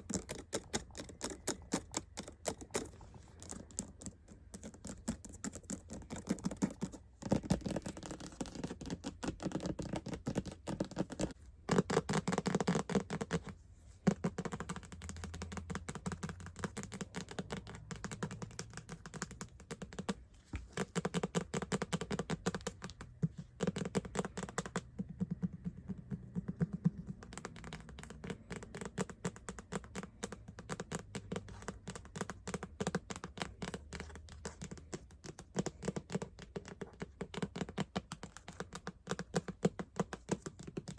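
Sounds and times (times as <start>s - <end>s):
fast tapping on hard objects: 0.0s - 40.9s
scratching on hard objects: 0.0s - 40.9s.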